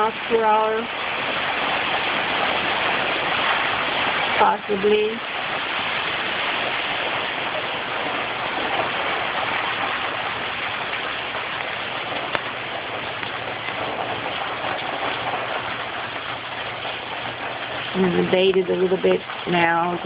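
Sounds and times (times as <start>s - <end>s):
gusty wind: 0.0s - 20.0s
heavy rain: 0.0s - 20.0s.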